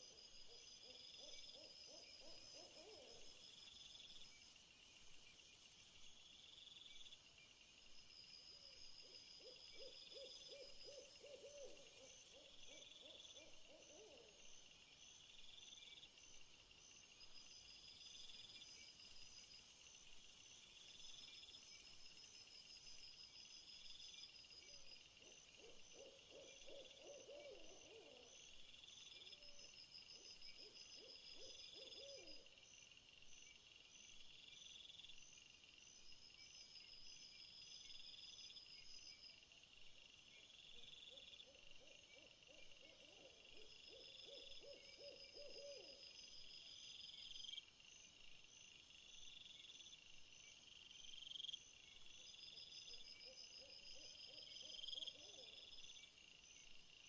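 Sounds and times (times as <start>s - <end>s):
insects chirping in high trills: 0.0s - 57.0s.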